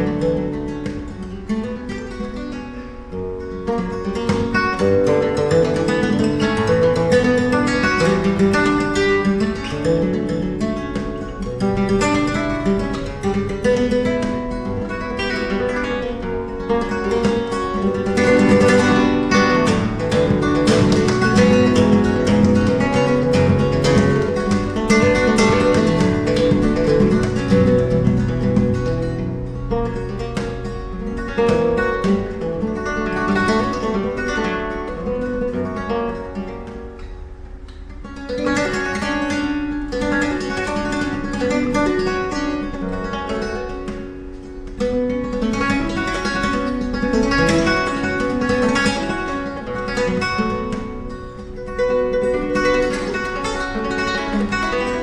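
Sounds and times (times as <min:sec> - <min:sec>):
flamenco guitar playing: 0:00.0 - 0:55.0.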